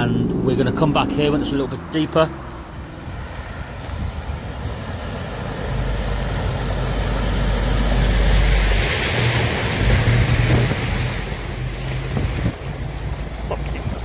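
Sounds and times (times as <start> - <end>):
lorry diesel engine: 0.0 - 14.0
water spray from wheels: 2.6 - 14.0.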